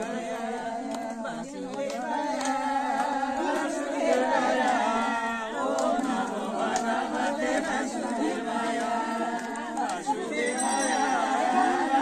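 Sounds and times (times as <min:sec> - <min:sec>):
hand claps: 0:00.0 - 0:11.6
women singing together: 0:00.0 - 0:12.0.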